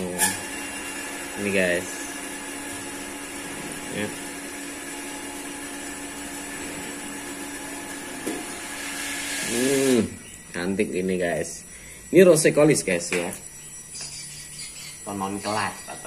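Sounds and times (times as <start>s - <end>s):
small electric motor whirring: 0.0s - 16.0s.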